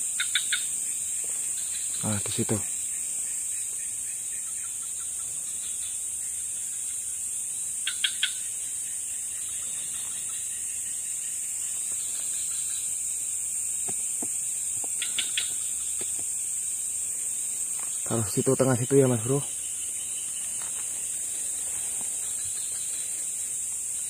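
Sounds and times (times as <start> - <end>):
crickets and night insects: 0.0 - 24.0.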